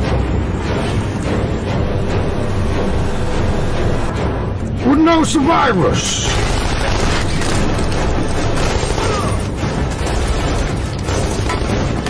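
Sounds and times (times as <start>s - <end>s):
dramatic music: 0.0s - 12.0s.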